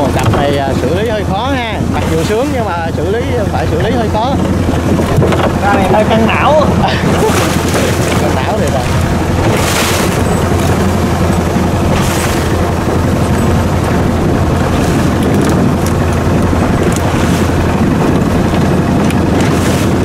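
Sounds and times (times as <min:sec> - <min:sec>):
boat engine running: 0:00.0 - 0:20.0
hull slapping through waves: 0:00.0 - 0:20.0.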